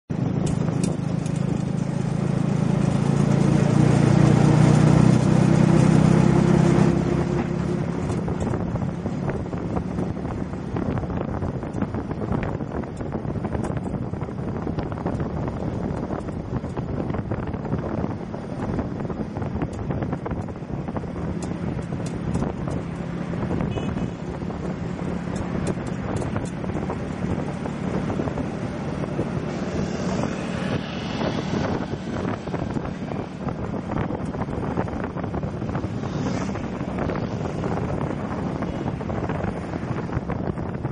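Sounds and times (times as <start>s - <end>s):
city traffic: 0.1s - 40.9s
motorcycle ride rumble: 0.1s - 40.9s
wind buffeting microphone: 0.1s - 40.9s.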